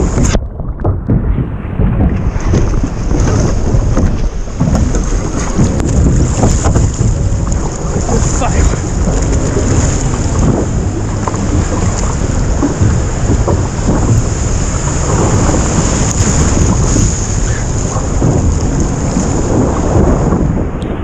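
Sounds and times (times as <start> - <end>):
water sloshing: 0.0 - 20.6
knocks and splashes: 0.0 - 21.0
surf: 0.0 - 21.0
wind buffeting microphone: 0.0 - 21.0.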